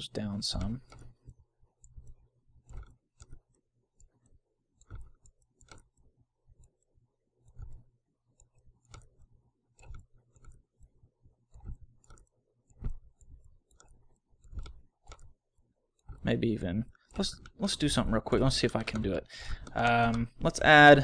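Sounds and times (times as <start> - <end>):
computer mouse clicks: 0.4 - 15.4, 16.0 - 21.0.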